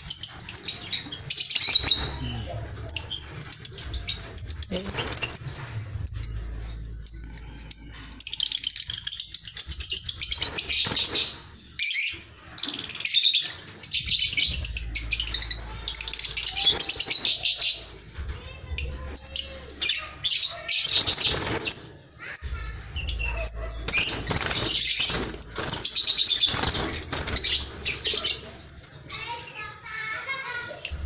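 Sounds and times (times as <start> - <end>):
bird chicks chirping: 0.0 - 31.0.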